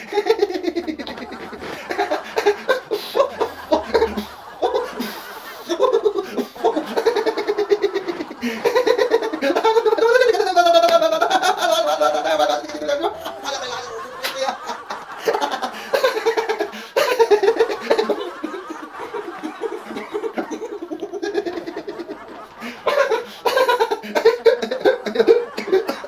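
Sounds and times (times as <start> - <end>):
man laughing: 0.0 - 26.0.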